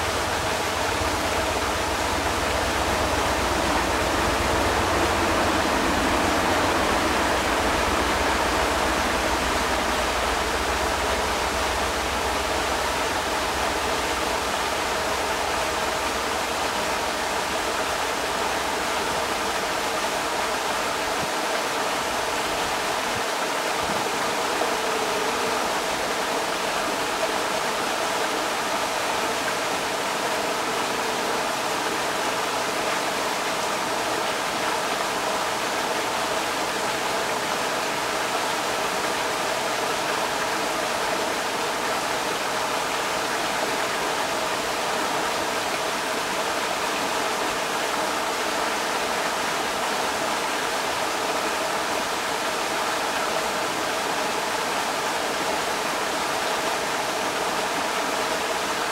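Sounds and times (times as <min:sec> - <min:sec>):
creek water rushing over rocks: 0:00.0 - 0:58.9.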